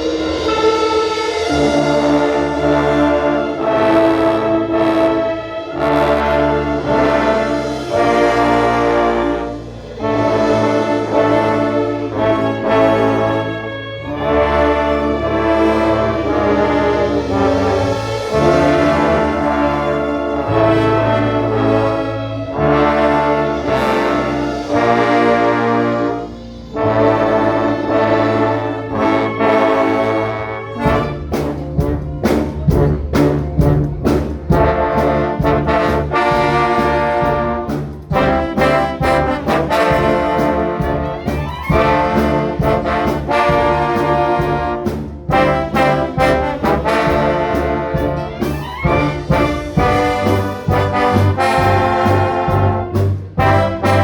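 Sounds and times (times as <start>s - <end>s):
orchestra brass sustained chords: 0.0s - 54.0s.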